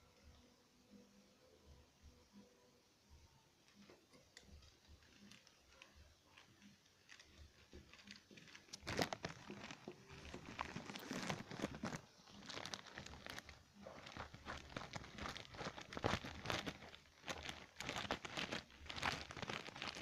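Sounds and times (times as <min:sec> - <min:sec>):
plastic pouch rustling and crinkling: 0:03.7 - 0:20.0.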